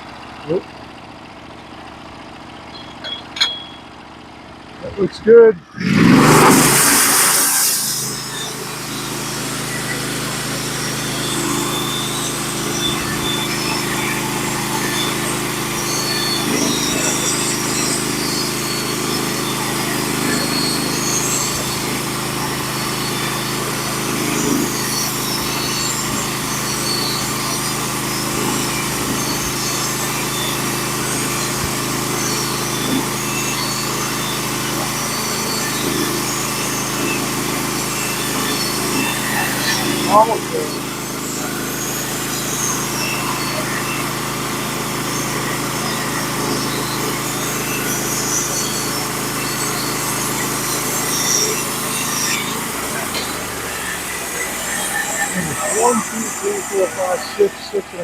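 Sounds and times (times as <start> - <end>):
bandsaw mill engine running: 0.0 - 58.0.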